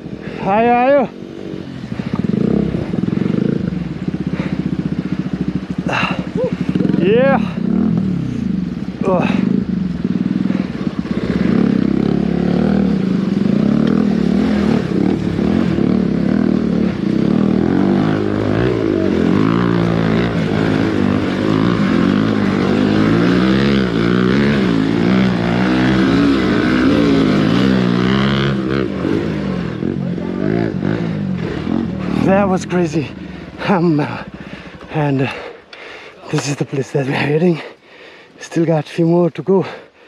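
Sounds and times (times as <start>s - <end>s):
motorcycle engine revving: 0.0s - 37.8s.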